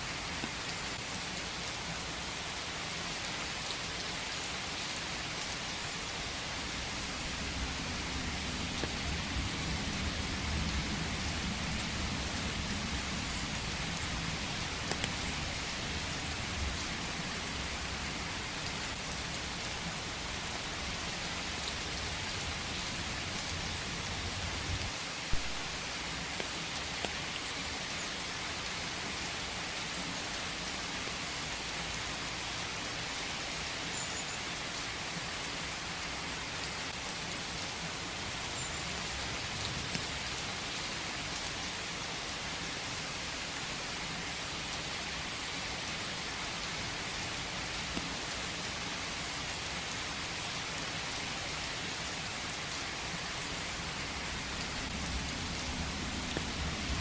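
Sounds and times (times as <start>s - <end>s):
steady rain in forest: 0.0s - 57.0s.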